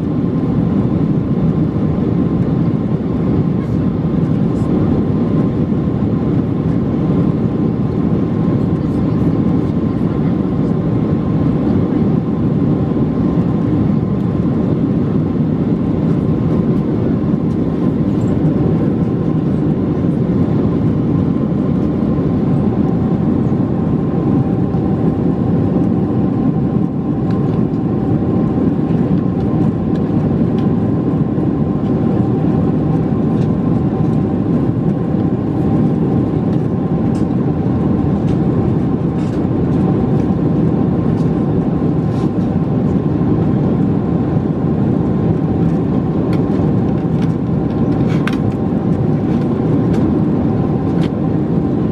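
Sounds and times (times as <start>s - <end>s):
jet engines heard from cabin: 0.0s - 51.9s.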